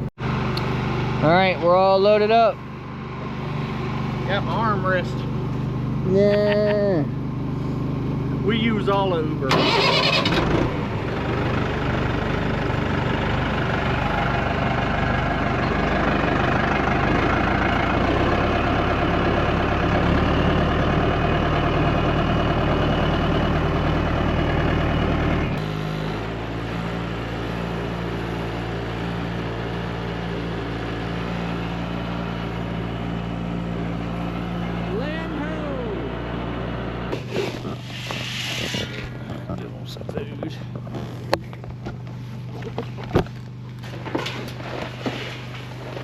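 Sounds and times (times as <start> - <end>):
farm vehicle engine running: 0.0 - 46.0.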